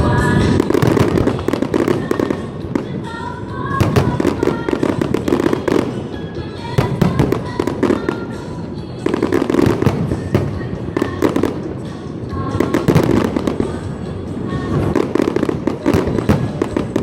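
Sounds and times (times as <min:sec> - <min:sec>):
fireworks crackling bangs: 0:00.0 - 0:17.0
music playing: 0:00.0 - 0:17.0.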